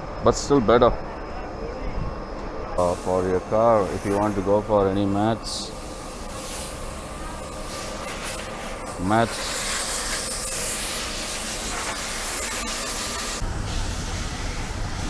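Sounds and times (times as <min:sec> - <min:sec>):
high-pressure spray hissing: 0:02.8 - 0:15.0.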